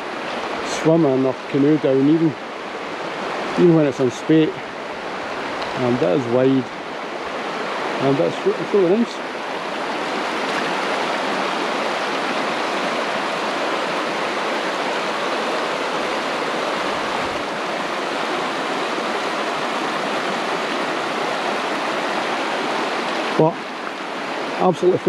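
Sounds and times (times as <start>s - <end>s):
river flowing: 0.0s - 25.0s.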